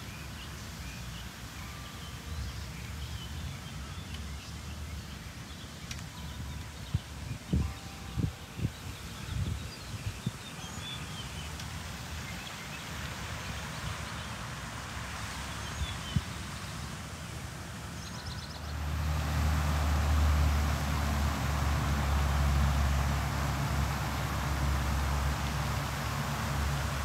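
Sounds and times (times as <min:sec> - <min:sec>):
low rumble with hiss: 0:00.0 - 0:27.0.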